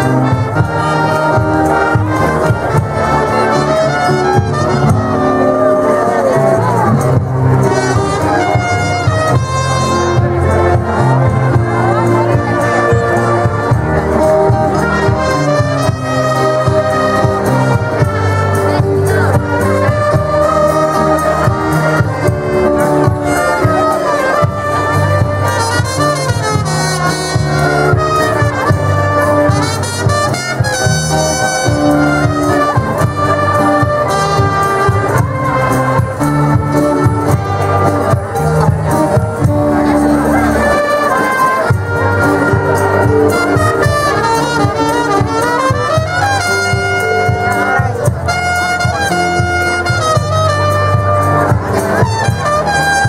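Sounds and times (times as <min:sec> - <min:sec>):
wind band playing: 0:00.0 - 0:53.0.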